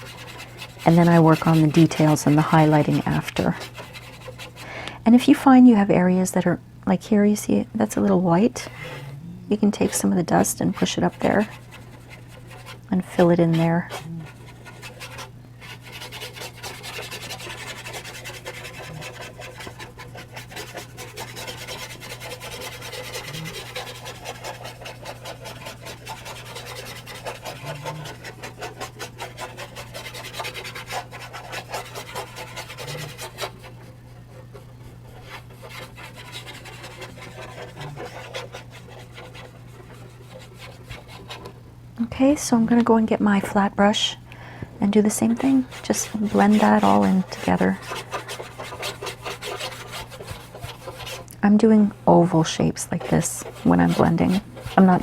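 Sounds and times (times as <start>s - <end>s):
paint brush scrubbing on paper: 0.0s - 4.7s, 8.4s - 41.5s, 44.9s - 55.0s
steady low hum: 0.0s - 55.0s.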